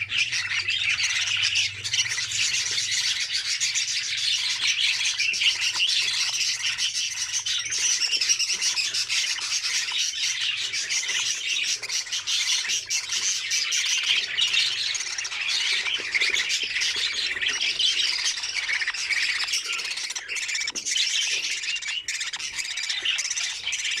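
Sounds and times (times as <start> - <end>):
budgerigars chattering and squawking: 0.0 - 24.0.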